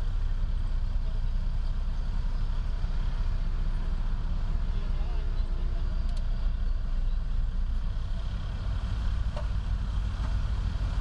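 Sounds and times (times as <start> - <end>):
heavy diesel engine rumbling: 0.0 - 11.0.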